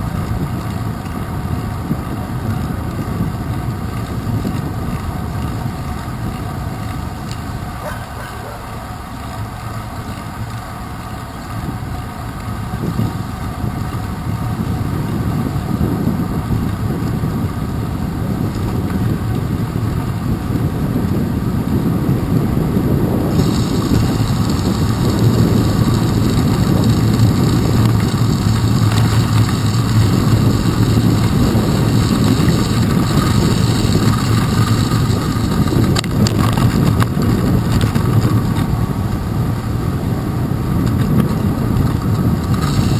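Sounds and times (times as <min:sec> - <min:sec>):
bicycle tyres on wet pavement: 0:00.0 - 0:42.9
wind rushing over microphone: 0:00.0 - 0:42.9.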